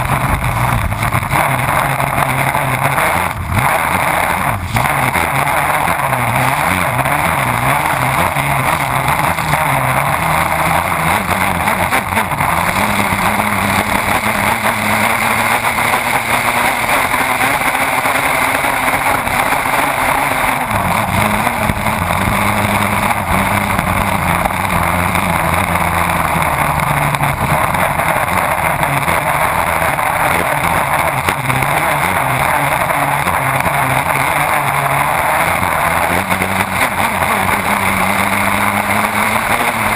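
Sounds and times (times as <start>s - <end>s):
boat engine running hard: 0.0s - 39.9s.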